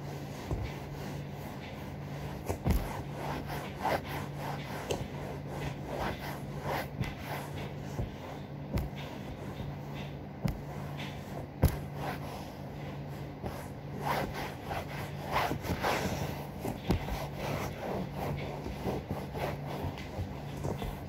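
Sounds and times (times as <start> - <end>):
cloth wiping a cushion: 0.0 - 21.0
steady low hum: 0.0 - 21.0.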